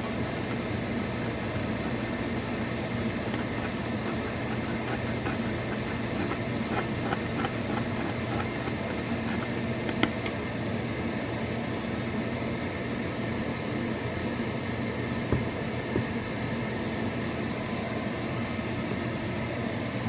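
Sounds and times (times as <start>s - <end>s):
kitchen appliance electrical hum: 0.0s - 20.0s.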